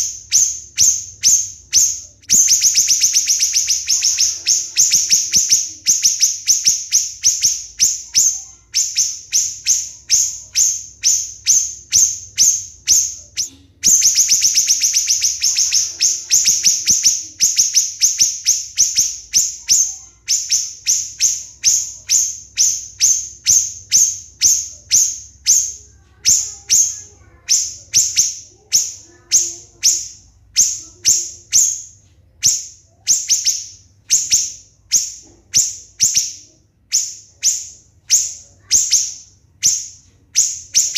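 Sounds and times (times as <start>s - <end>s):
bird calling shrill notes: 0.0s - 40.9s.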